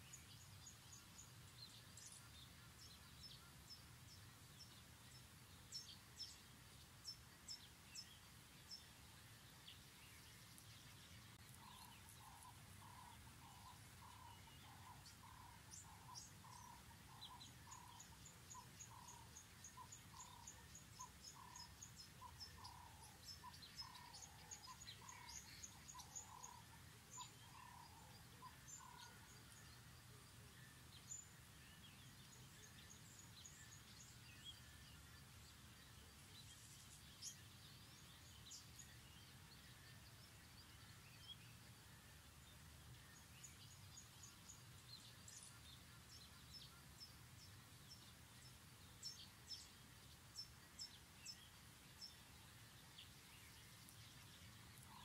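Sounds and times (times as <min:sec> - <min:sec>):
low repeated bird call: 0:00.0 - 0:36.6, 0:37.2 - 0:55.0
birds chirping and trilling: 0:00.0 - 0:55.0
low steady background hum: 0:00.0 - 0:55.0.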